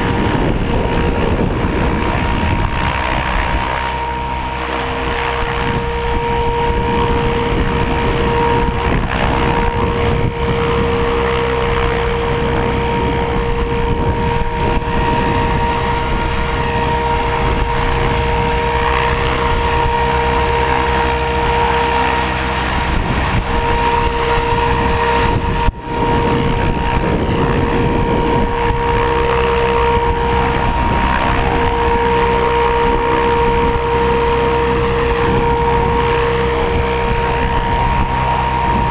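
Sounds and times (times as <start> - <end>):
helicopter rotor noise: 0.0 - 38.9
rc helicopter motor whine: 0.0 - 38.9
wind buffeting microphone: 0.0 - 38.9.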